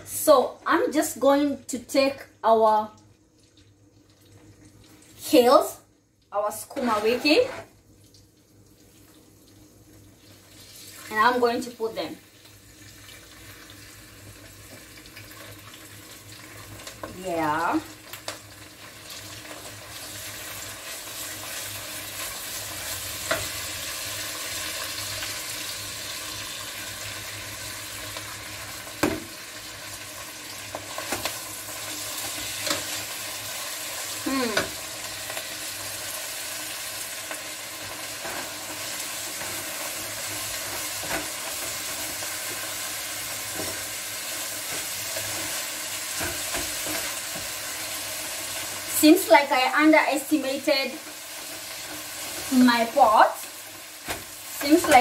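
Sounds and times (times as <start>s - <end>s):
vegetables sizzling in a pot: 0.0s - 55.0s.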